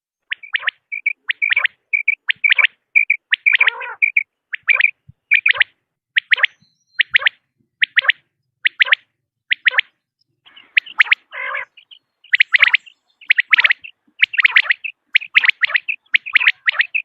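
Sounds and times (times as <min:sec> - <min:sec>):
quail calling: 0:00.2 - 0:17.0.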